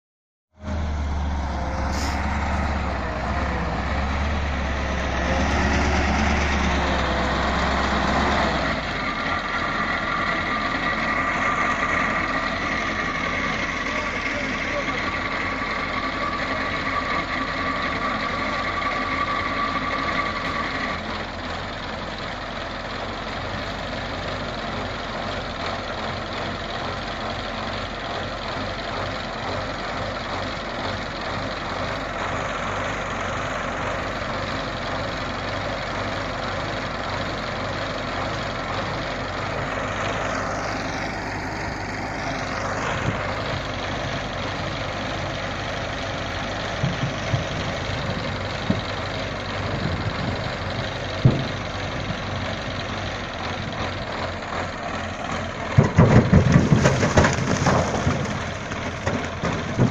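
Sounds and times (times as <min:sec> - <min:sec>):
truck diesel engine idling: 0:00.6 - 0:59.9.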